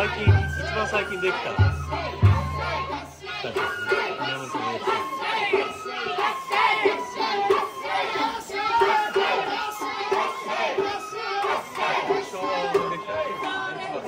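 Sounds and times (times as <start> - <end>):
crowd singing and calling: 0.0 - 14.0
flute melody: 0.0 - 14.0
rhythmic percussion: 0.0 - 14.0.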